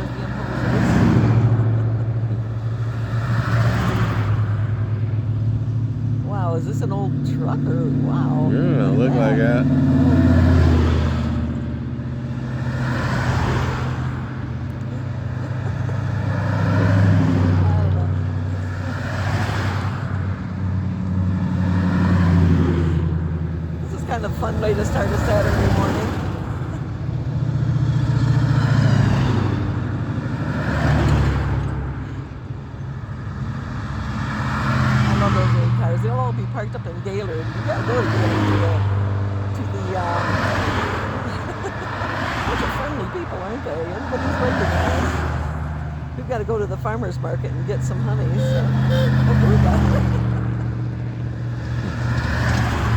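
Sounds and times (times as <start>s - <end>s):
cars driving past slowly: 0.0s - 52.9s
road noise from passing traffic: 0.0s - 52.9s.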